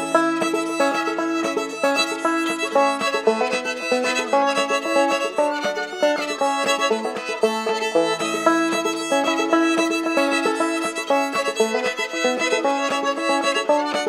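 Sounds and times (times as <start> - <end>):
bowed fiddle: 0.0 - 14.0
plucked banjo: 0.0 - 14.0.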